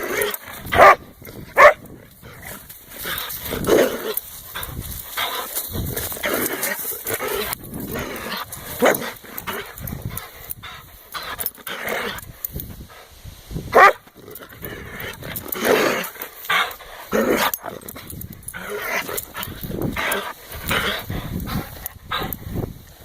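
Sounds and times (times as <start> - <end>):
dog growling and snarling: 0.0 - 13.1, 13.7 - 22.6.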